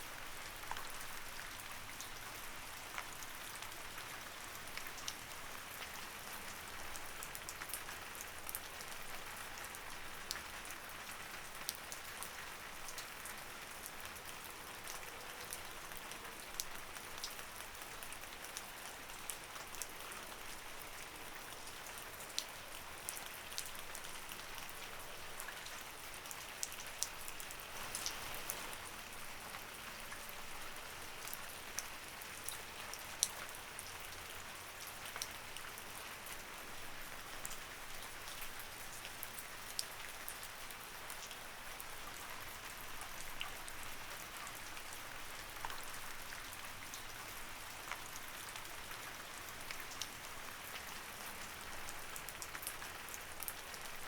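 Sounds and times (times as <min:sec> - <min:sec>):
light rain hiss: 0:00.0 - 0:54.0
raindrops pattering on a surface: 0:00.1 - 0:54.0.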